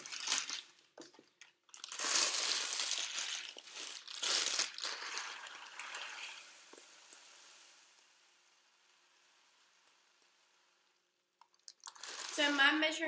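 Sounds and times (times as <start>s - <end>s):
cereal pouring into a cup: 0.0s - 13.0s.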